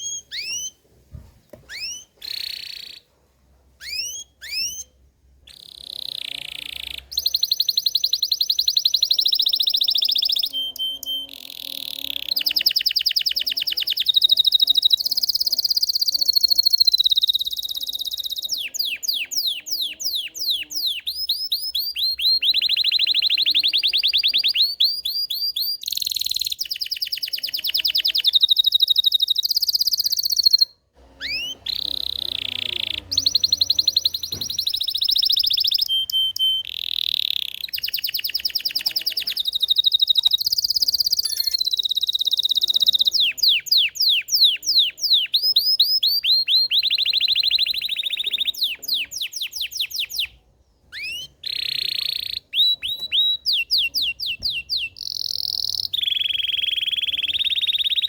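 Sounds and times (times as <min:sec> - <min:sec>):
canary singing trills: 0:00.0 - 0:00.8, 0:01.6 - 0:03.1, 0:03.8 - 0:58.0.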